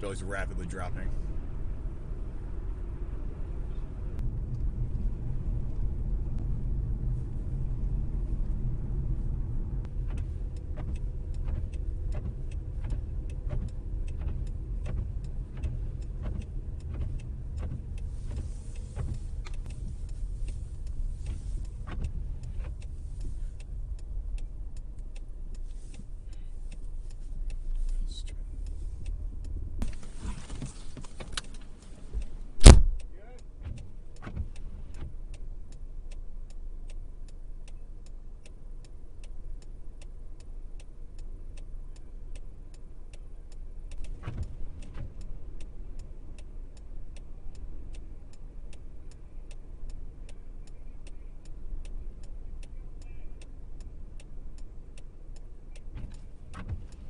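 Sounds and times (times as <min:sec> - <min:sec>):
car interior low rumble: 0:00.0 - 0:57.0
faint clicks: 0:09.8 - 0:32.4, 0:33.0 - 0:57.0.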